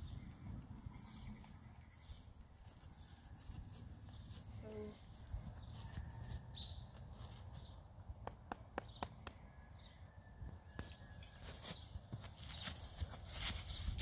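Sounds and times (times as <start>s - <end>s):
hooves on grass: 0.0s - 9.2s, 10.7s - 14.0s.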